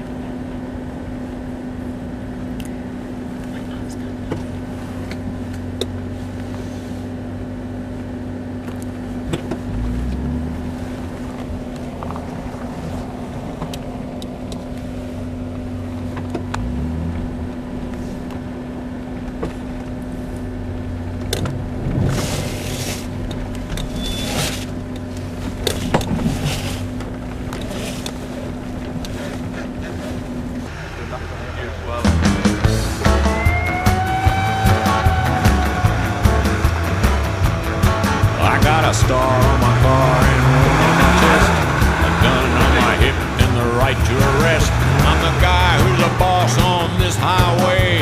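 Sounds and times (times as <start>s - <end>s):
off-road vehicle engine running: 0.0s - 48.0s.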